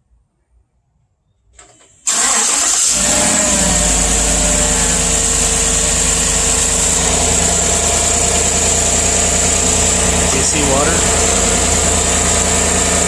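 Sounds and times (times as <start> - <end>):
truck engine starting and idling: 1.6 - 13.0.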